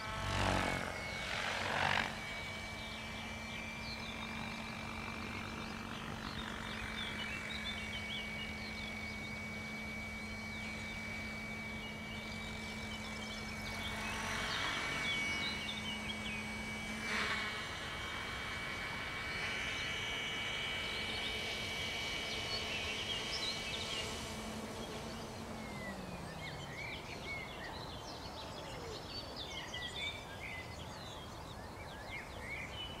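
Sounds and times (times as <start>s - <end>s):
birds chirping: 0.0s - 33.0s
model helicopter rotor whining: 0.0s - 33.0s.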